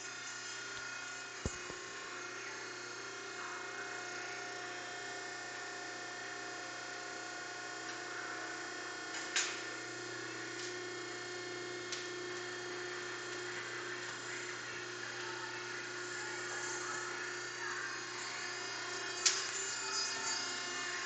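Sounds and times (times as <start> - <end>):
hydraulic pump motor humming: 0.0 - 21.0.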